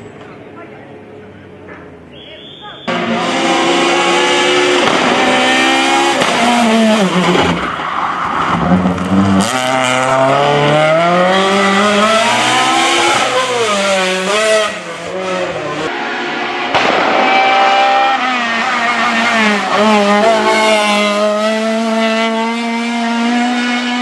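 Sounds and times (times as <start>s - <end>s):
rally car engine revving: 2.8s - 24.0s.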